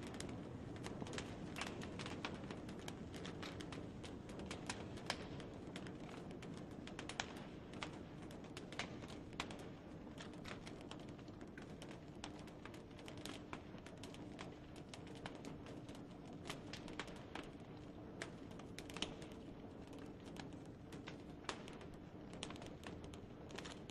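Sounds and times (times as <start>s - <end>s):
branches crackling in fire: 0.0s - 23.9s.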